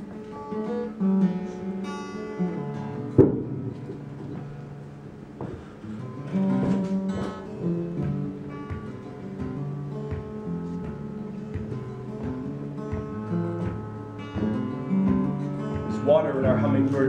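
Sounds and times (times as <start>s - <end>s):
acoustic guitar picking chords: 0.0s - 17.0s.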